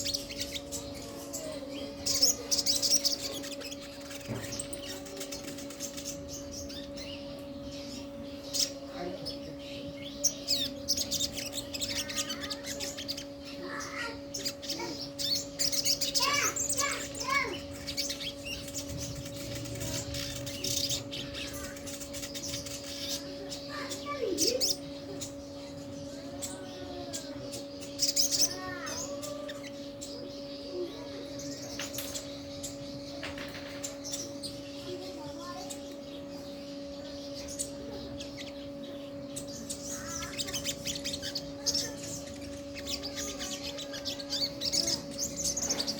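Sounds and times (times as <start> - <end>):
bird chirping and trilling: 0.0 - 45.9
steady low hum: 0.0 - 45.9.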